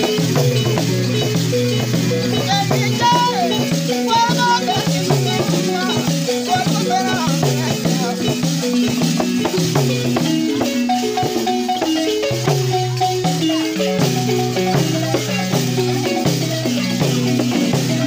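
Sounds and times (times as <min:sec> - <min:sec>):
drums beating: 0:00.0 - 0:18.0
wooden xylophone melody: 0:00.0 - 0:18.0.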